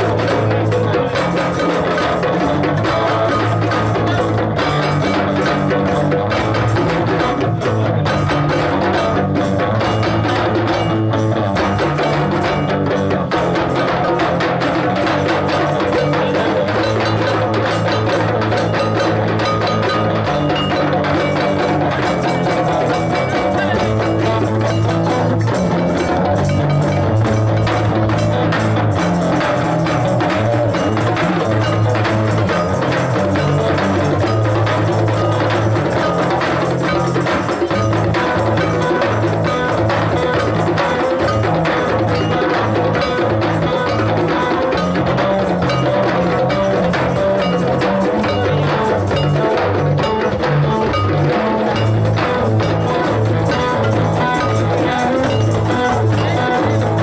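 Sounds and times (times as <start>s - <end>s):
hand drums playing: 0.0s - 57.0s.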